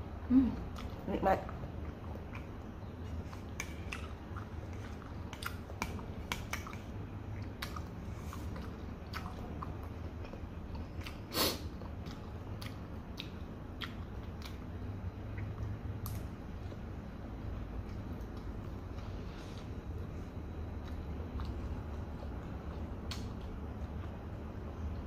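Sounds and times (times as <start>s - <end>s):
person chewing with wet smacking: 0.2s - 25.0s.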